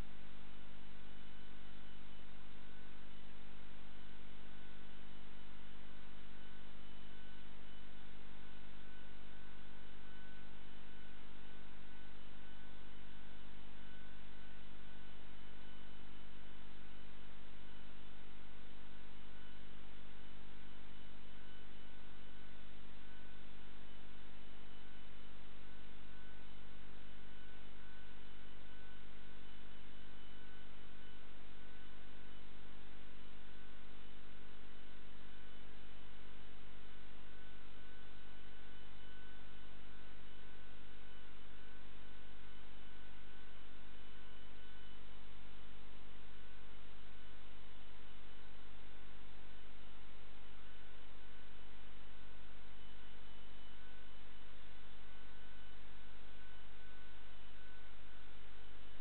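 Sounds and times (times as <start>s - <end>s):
electrical mains hum: 0.0s - 59.0s
faint high whine: 0.0s - 59.0s.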